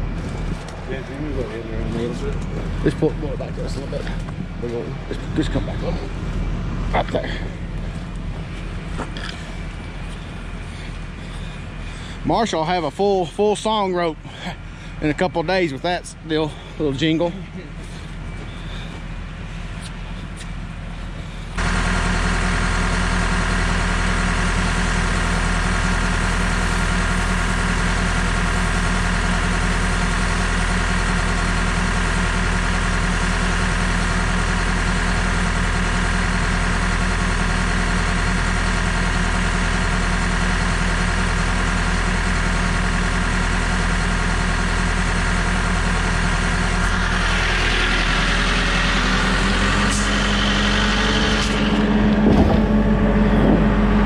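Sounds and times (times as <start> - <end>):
heavy engine running: 0.0 - 54.0.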